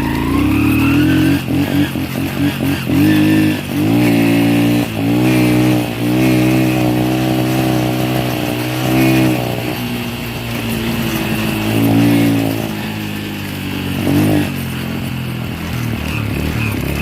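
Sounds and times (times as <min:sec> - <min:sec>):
small petrol engine revving: 0:00.0 - 0:17.0.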